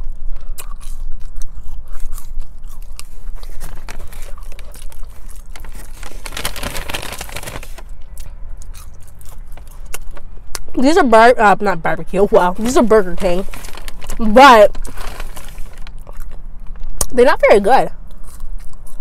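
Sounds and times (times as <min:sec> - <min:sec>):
chewing crunchy food: 0:00.0 - 0:10.8, 0:12.6 - 0:17.1, 0:18.0 - 0:19.0.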